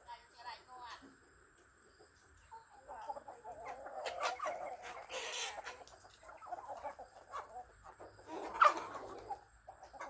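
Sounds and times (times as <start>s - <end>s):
chickens clucking: 1.9s - 10.0s.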